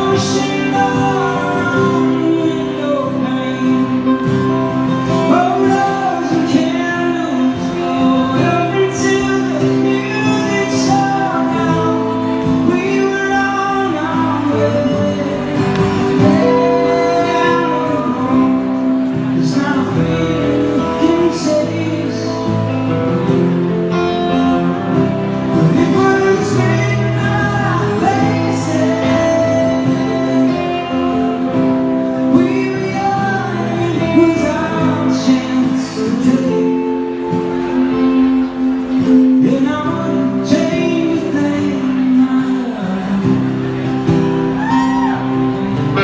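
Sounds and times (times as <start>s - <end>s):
electric guitar: 0.0s - 46.0s
man singing: 0.0s - 46.0s
strummed acoustic guitar: 0.0s - 46.0s.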